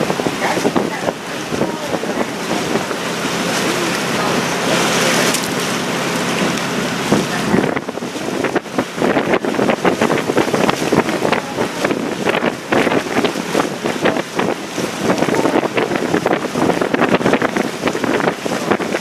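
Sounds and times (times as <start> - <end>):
boat engine hum: 0.0 - 19.0
water rushing: 0.0 - 19.0
wind buffeting microphone: 0.0 - 19.0.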